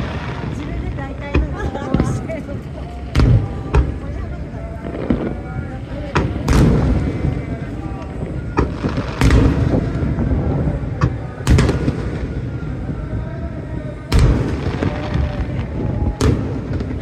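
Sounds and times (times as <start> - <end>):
fireworks booming: 0.0 - 17.0
fireworks cracking: 0.0 - 17.0.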